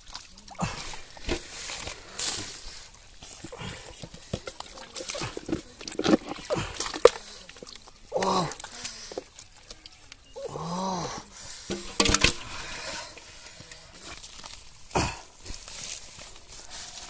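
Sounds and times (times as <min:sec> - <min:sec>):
muddy water sloshing and splashing: 0:00.0 - 0:17.0.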